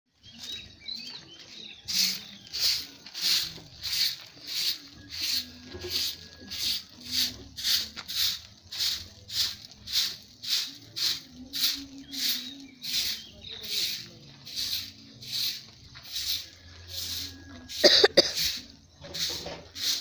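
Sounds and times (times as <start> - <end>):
broom sweeping dirt ground: 0.2 - 20.0.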